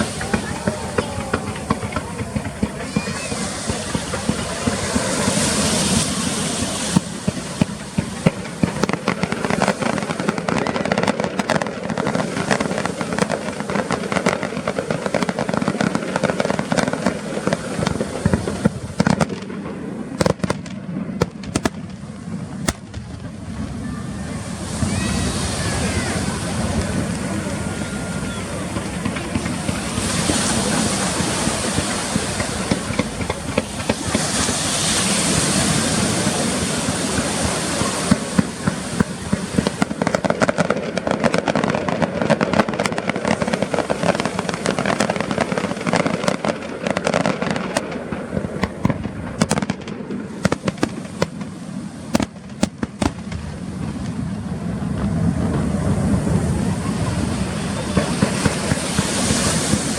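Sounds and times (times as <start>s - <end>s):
fireworks bursting and crackling: 0.0s - 59.9s
fireworks sharp bangs: 0.0s - 59.9s.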